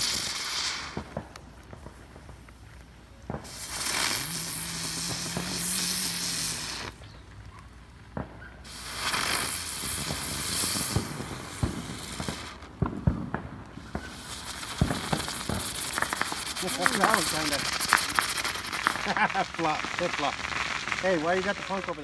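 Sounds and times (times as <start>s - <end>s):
firework pops and crackles: 0.0s - 22.0s
fireworks spraying hiss: 0.0s - 22.0s.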